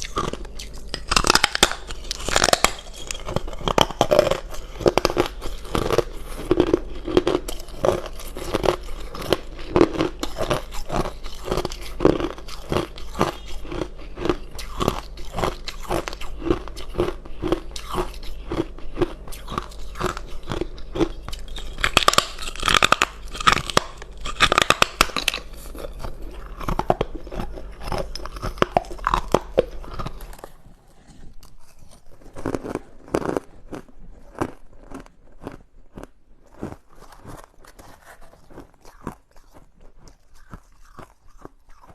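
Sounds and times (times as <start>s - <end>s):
ice being chewed: 0.0s - 41.9s
steady low hum: 0.0s - 41.9s.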